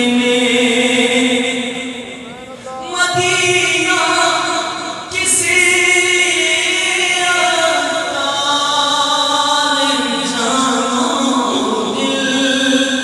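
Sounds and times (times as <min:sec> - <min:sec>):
man singing through loudspeaker: 0:00.0 - 0:13.0.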